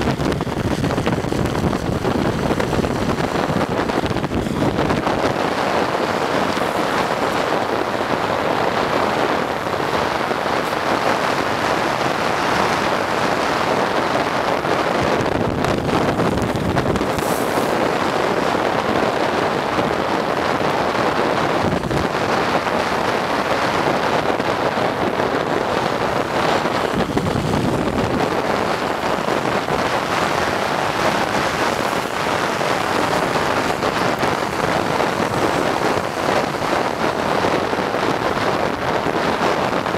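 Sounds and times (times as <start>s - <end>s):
wheels rolling on asphalt: 0.0s - 39.9s
wind rushing over microphone: 0.0s - 39.9s.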